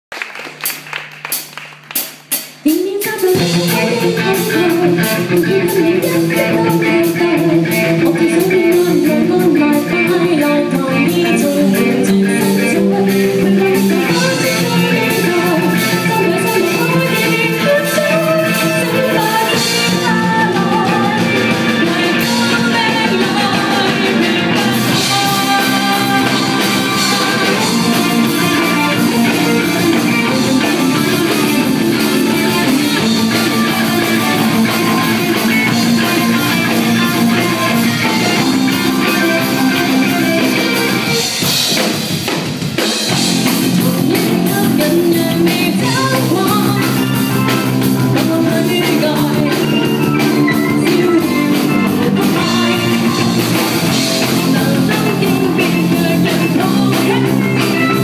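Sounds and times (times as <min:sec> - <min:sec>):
rock band playing: 0:00.3 - 0:58.0
woman singing lead: 0:02.6 - 0:41.5, 0:43.1 - 0:58.0.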